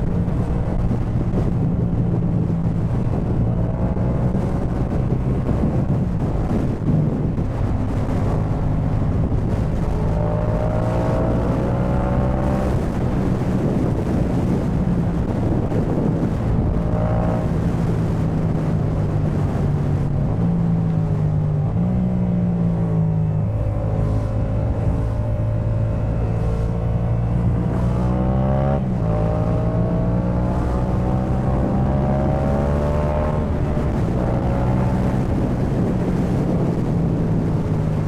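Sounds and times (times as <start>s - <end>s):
motorcycle engine running: 0.0s - 38.0s
wind noise on microphone: 0.0s - 38.0s.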